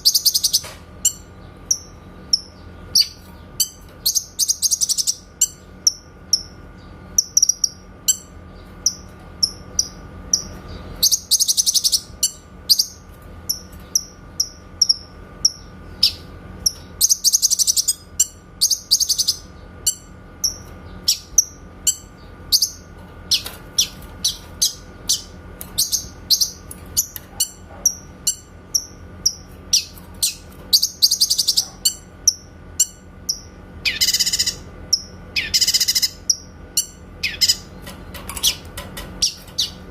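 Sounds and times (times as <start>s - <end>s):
songbird chip notes and trills: 0.0s - 39.9s.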